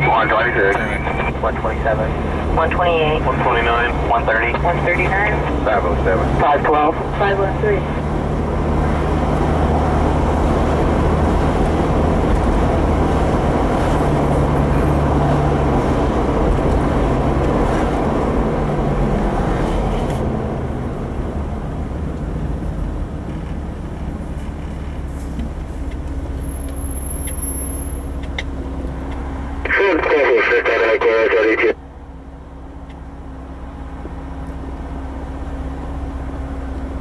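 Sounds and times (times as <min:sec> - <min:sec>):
low engine drone: 0:00.0 - 0:37.0
road and wind noise: 0:00.0 - 0:37.0.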